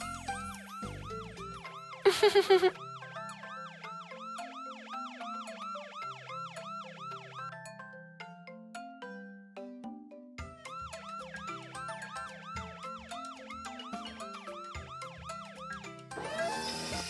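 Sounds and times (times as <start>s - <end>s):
cartoon fire engine siren: 0.0s - 7.7s, 10.5s - 17.0s.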